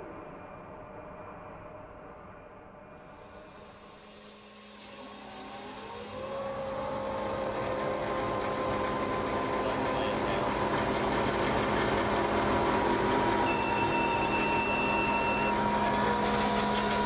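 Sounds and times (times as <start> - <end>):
machine hum and hiss: 2.9 - 17.0
hydraulic whine rising: 3.0 - 17.0.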